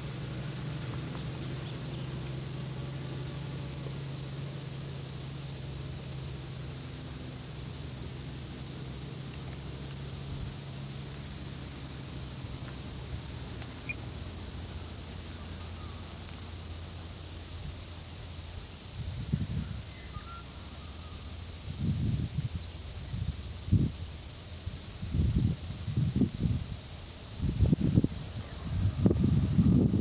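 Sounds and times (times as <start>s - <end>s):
insects chorus: 0.0s - 30.0s.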